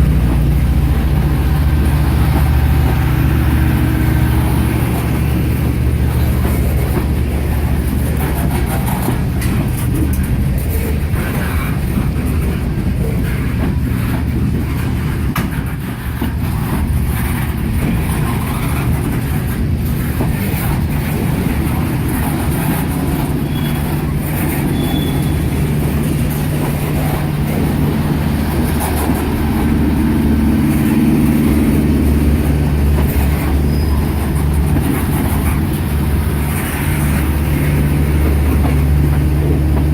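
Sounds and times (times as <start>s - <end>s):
freight train rolling past: 0.0s - 39.9s
wheels clicking on rails: 0.0s - 39.9s.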